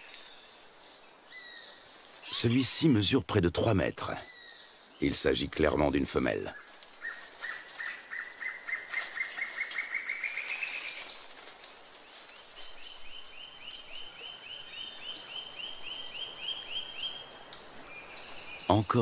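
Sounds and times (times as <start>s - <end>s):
faint steady hiss: 0.0s - 19.0s
forest birds chirping: 0.0s - 19.0s.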